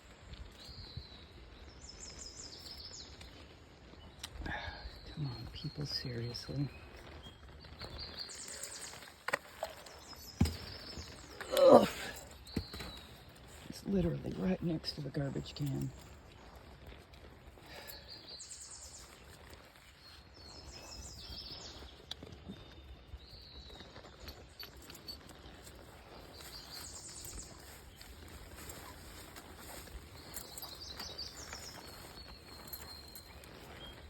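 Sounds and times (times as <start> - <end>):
songbirds trilling: 4.0 - 16.1, 17.6 - 25.0, 25.8 - 34.0.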